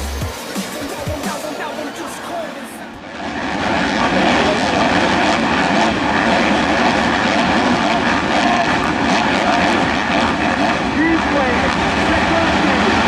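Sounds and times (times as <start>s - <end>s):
motocross motorcycles racing: 0.0s - 13.0s.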